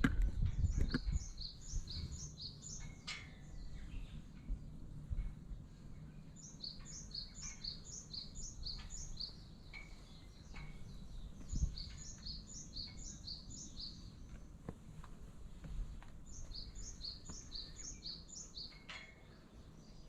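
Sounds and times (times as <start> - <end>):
steady low rumble: 0.0 - 18.7
small songbird singing: 0.4 - 4.8, 5.9 - 14.6, 16.2 - 20.0.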